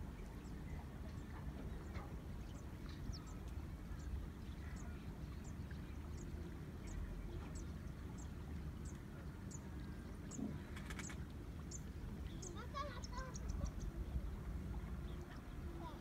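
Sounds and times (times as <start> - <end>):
water rumbling: 0.0 - 16.0
wind: 0.0 - 16.0.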